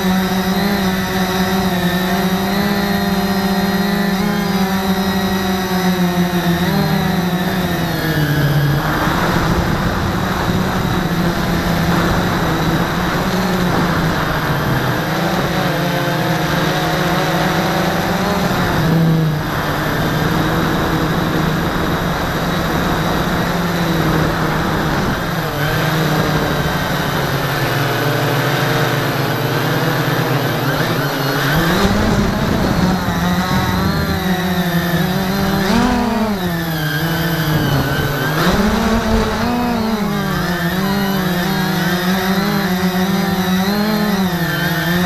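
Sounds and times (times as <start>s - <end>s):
drone motors whining: 0.0s - 45.0s.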